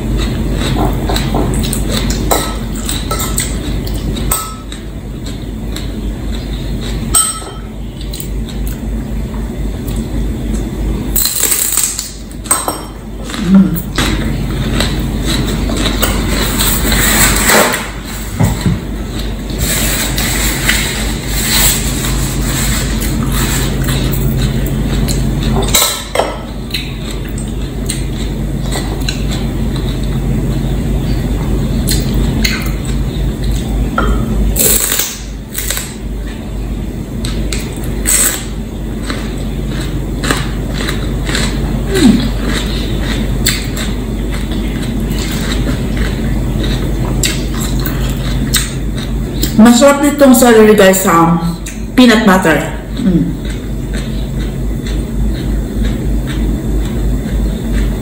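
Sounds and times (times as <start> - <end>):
crunching and chewing celery: 0.0 - 12.5, 13.2 - 50.3, 51.5 - 58.0
steady low hum: 0.0 - 58.0.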